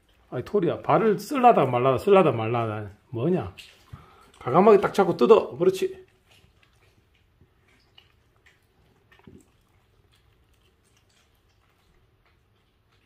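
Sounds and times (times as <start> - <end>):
dog chewing wet meat: 0.0 - 13.0.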